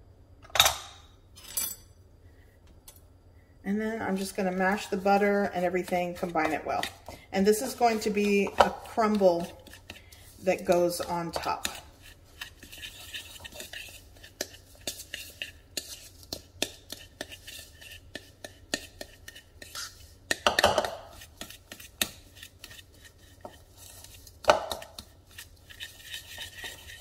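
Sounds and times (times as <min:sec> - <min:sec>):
fork tapping and scraping bowl: 0:04.1 - 0:27.0.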